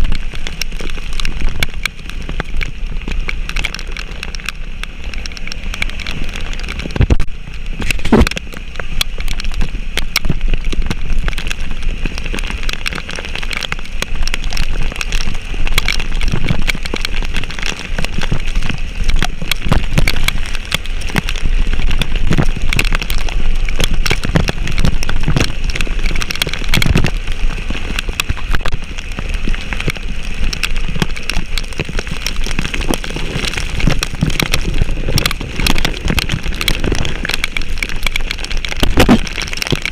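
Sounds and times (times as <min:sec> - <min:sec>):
engine and road rumble: 0:00.0 - 0:39.9
rain hissing: 0:00.0 - 0:39.9
small irregular clicks and knocks: 0:00.0 - 0:39.9.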